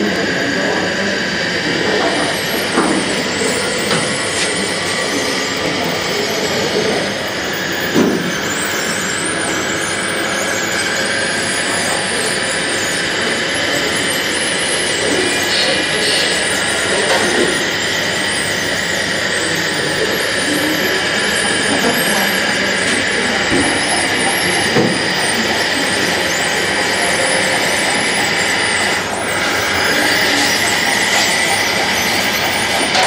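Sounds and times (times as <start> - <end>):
small motors and gearboxes whining: 0.0 - 33.0.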